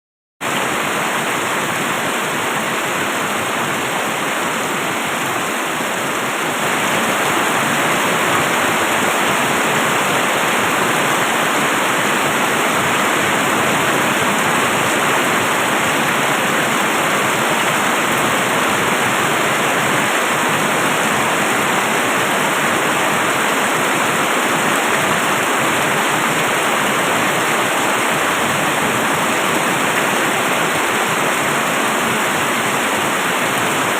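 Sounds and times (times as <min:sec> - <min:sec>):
heavy rain hissing: 0:00.6 - 0:33.9.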